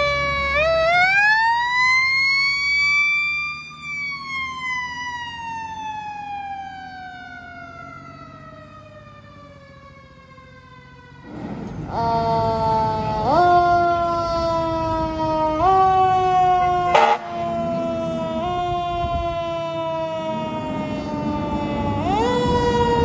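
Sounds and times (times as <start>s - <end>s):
fire engine siren wailing: 0.0s - 23.0s.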